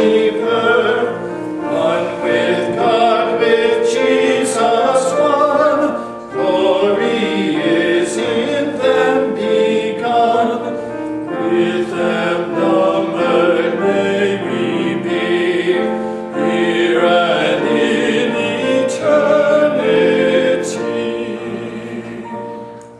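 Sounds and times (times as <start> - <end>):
two men singing a hymn: 0.0 - 22.9.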